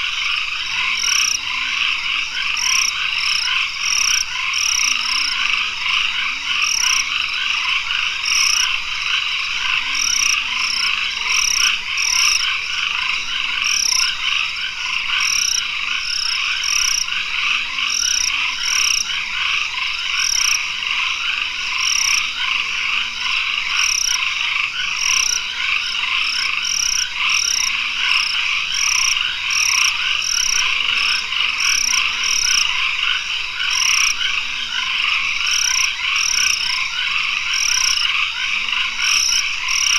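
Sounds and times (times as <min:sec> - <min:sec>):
frog chorus: 0:00.0 - 0:39.9.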